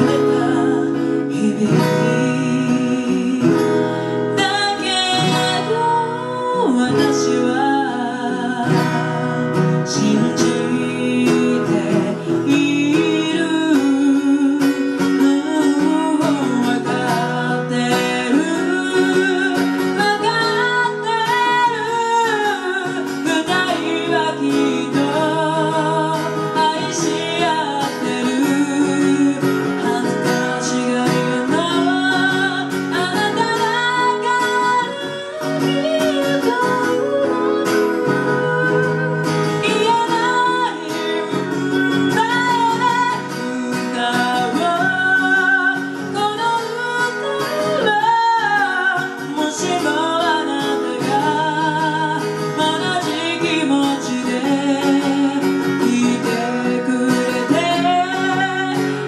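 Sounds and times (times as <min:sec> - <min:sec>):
acoustic guitar: 0:00.0 - 0:59.0
woman singing with vibrato: 0:00.0 - 0:59.0.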